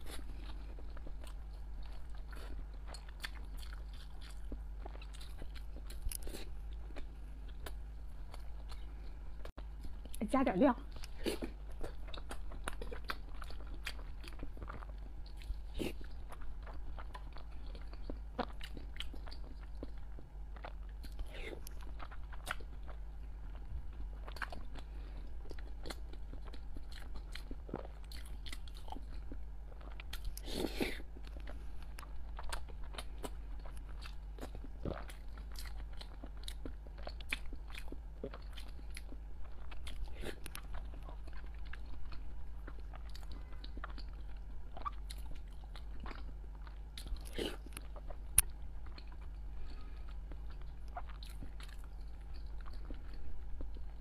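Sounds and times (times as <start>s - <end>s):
close chewing mouth sounds: 0.0s - 54.0s
steady low hum: 0.0s - 54.0s.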